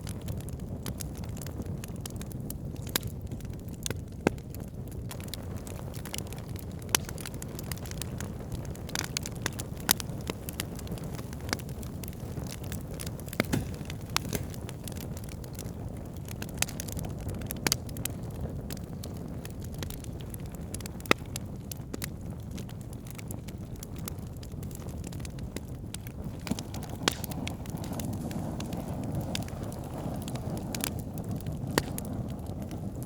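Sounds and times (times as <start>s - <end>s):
burning wood crackling and popping: 0.0s - 33.0s
low rush of flames: 0.0s - 33.0s.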